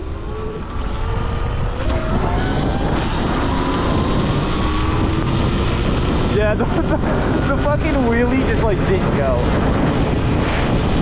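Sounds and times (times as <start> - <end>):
electric motor whining: 0.0 - 11.0
wind rumble on microphone: 0.0 - 11.0.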